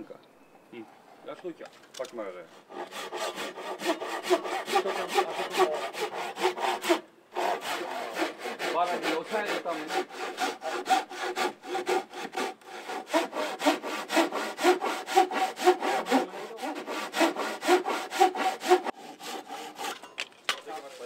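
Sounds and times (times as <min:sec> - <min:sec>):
hand saw cutting timber: 0:02.5 - 0:21.0.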